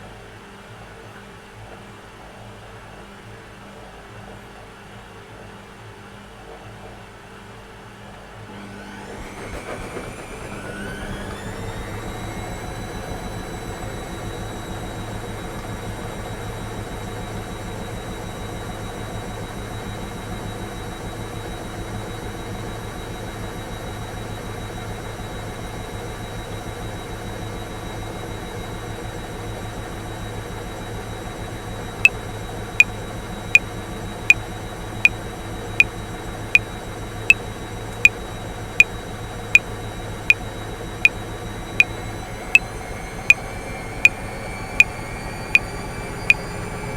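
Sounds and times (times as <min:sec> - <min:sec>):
washing machine motor whir: 0:08.5 - 0:46.9.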